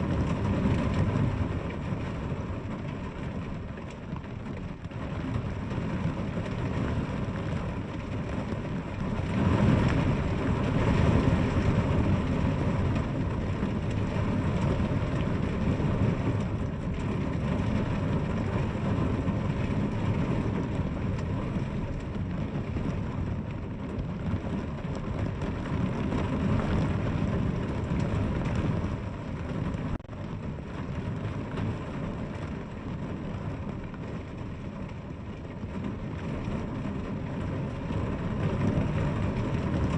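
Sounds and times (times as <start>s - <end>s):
deep rumble: 0.0s - 39.9s.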